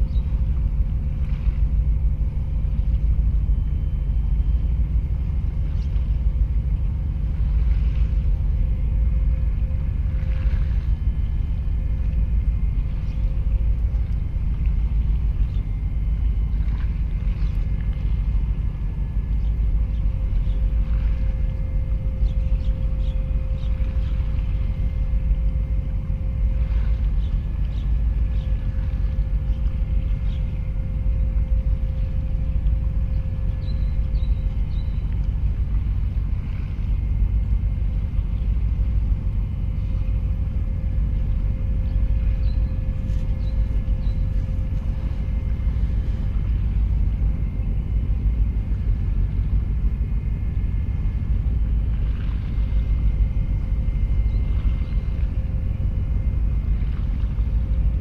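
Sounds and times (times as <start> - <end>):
faint machinery hum: 0.0 - 58.0
low rumble: 0.0 - 58.0.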